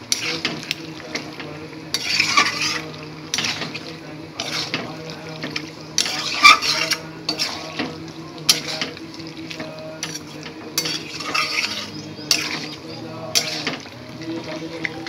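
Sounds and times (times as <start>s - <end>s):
light sizzle of frying: 0.0s - 15.0s
metal spatula scraping a pan: 0.0s - 15.0s.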